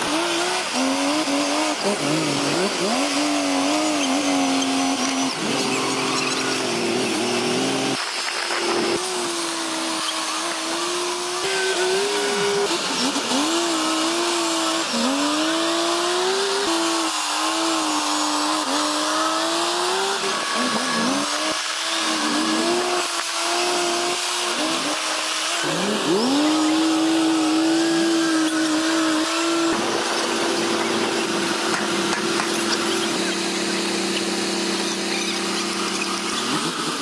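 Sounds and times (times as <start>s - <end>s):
bulldozer engines under load: 0.0s - 37.0s.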